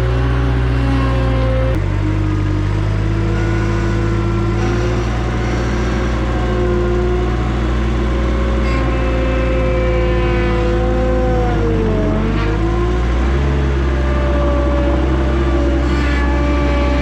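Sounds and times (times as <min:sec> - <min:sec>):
skid steer engine whining: 0:00.0 - 0:17.0.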